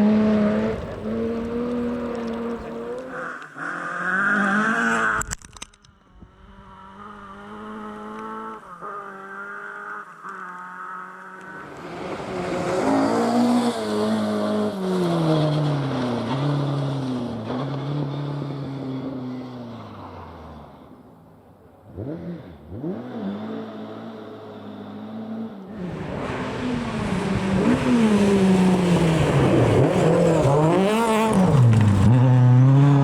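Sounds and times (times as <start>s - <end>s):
rally car engine at full revs: 0.0s - 5.3s, 6.1s - 33.0s.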